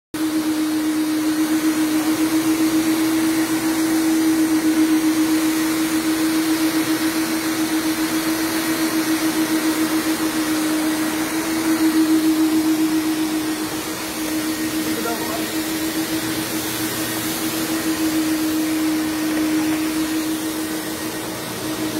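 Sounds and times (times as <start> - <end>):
floor scrubbing machines humming: 0.2 - 21.9.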